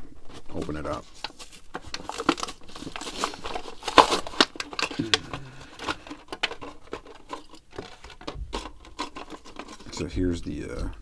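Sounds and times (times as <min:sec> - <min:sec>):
plastic packaging crinkling: 0:00.0 - 0:10.4
plastic cracking: 0:00.3 - 0:10.1.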